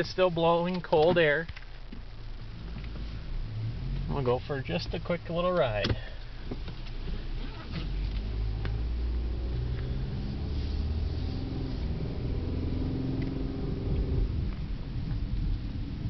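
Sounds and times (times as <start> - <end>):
road rumble: 0.0 - 16.0
car engine pulling away: 2.4 - 16.0.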